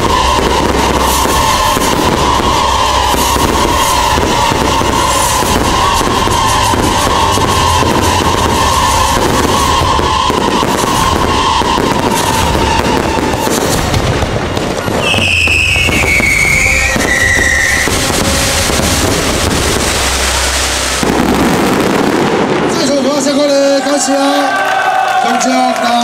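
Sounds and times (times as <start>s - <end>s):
music track playing: 0.0s - 13.9s, 14.8s - 22.7s
fireworks bursting and crackling: 0.0s - 26.0s.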